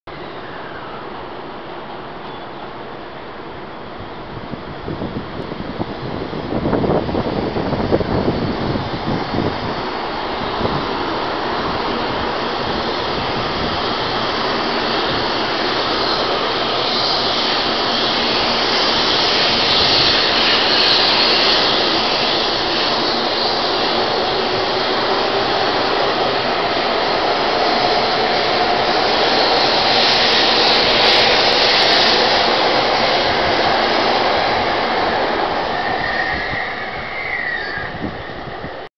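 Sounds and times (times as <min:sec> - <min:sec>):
high-speed train passing: 0:00.1 - 0:38.9.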